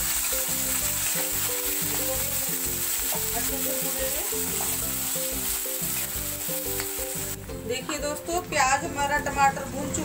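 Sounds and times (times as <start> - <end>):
background music: 0.0 - 10.0
onion and tomato sizzling in oil: 0.0 - 10.0.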